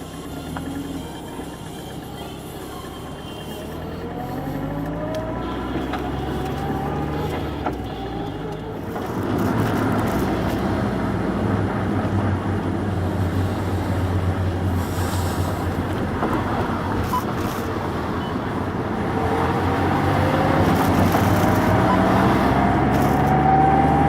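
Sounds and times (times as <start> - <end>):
car engine accelerating: 0.0 - 24.0
road noise: 0.0 - 24.0.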